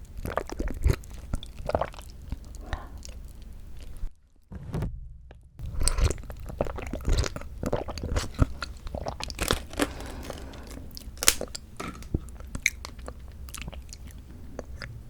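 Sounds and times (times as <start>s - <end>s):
wet chewing sounds: 0.0s - 4.1s, 5.6s - 15.0s.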